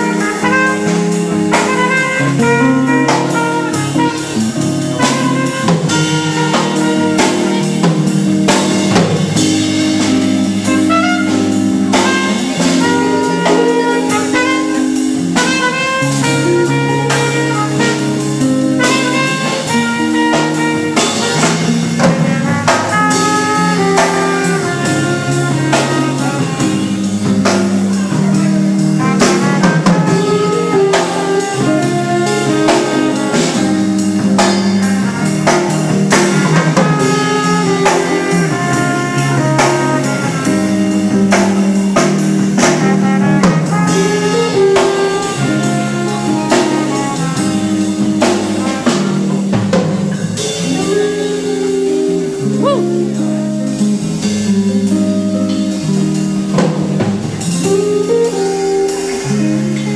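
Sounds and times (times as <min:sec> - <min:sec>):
horn-like melody: 0:00.0 - 0:56.6, 0:57.4 - 0:59.9
bass line: 0:00.0 - 0:59.9
drum kit beat: 0:00.0 - 0:59.9.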